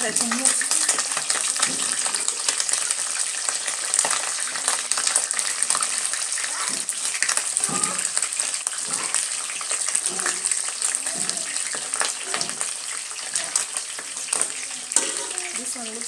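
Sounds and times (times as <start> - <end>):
chicken deep frying in oil: 0.0 - 16.0.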